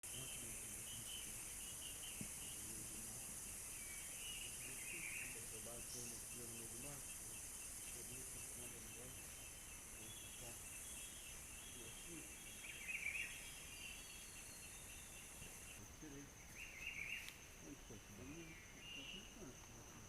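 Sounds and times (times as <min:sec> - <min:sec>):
insect drone and trill: 0:00.0 - 0:20.0
bird call: 0:00.1 - 0:20.0.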